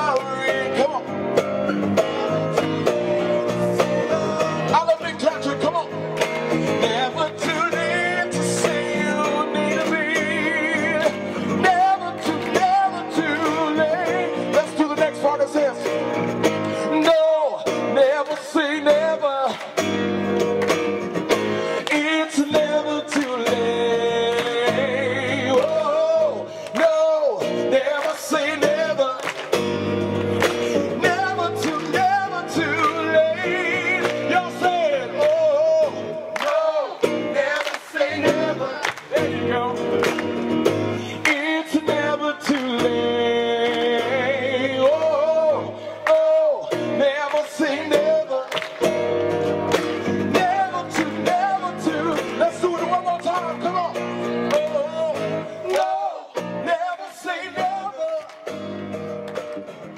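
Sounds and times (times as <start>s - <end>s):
live band music: 0.0s - 59.9s.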